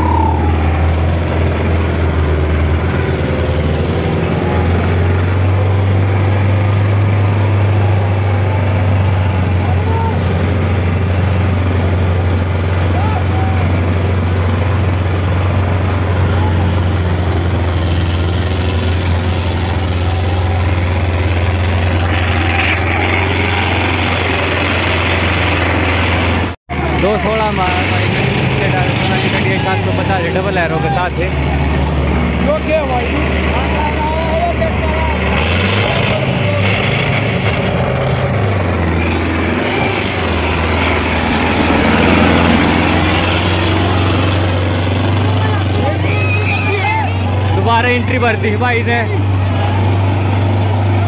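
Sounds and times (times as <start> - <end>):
tractor diesel engine droning: 0.0 - 51.0.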